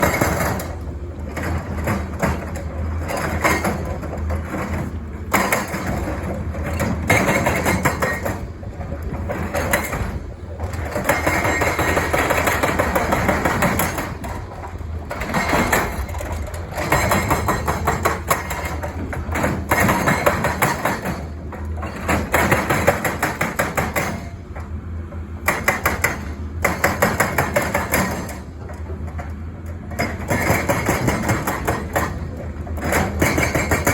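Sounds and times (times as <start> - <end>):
hydraulic breaker hammer pounding: 0.0 - 8.5, 9.1 - 29.2, 29.8 - 33.9
excavator diesel engine running: 0.0 - 33.9.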